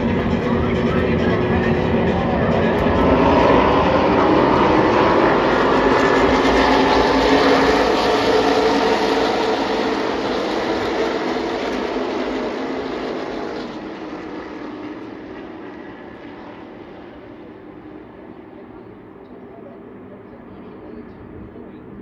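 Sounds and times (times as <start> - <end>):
race cars engines droning: 0.0 - 22.0.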